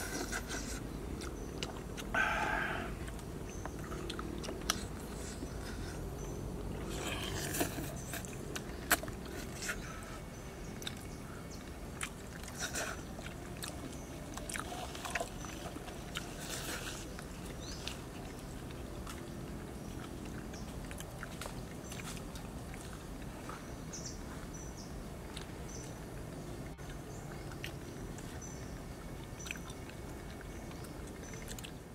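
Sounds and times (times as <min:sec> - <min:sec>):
chewing: 0:00.0 - 0:24.6, 0:25.2 - 0:31.8.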